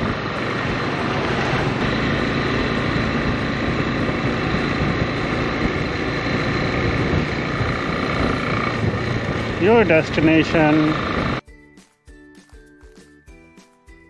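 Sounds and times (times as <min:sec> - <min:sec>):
motorcycle engine hum: 0:00.0 - 0:11.4
rush of riding noise: 0:00.0 - 0:11.4.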